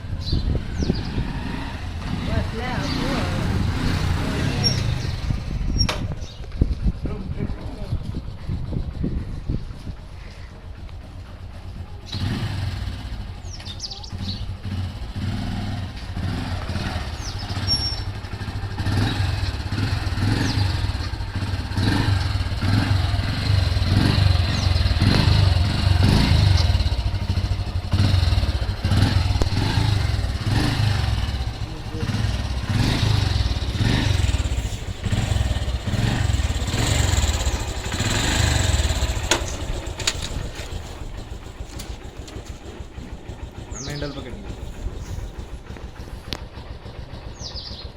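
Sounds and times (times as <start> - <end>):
motorcycle engine rumbling: 0.0 - 47.9.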